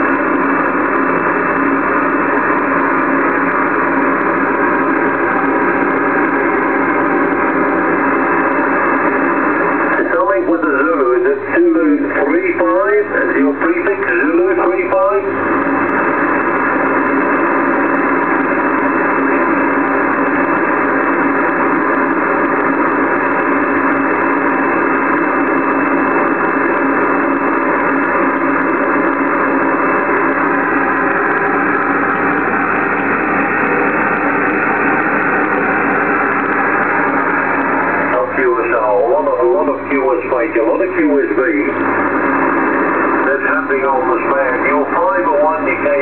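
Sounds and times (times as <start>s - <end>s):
radio band static: 0.0s - 46.0s.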